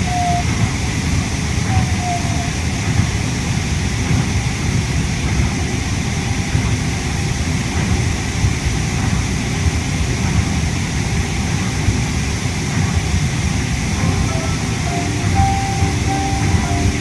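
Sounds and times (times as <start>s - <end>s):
loud air-conditioning noise: 0.0s - 17.0s
low train running rumble: 0.0s - 17.0s.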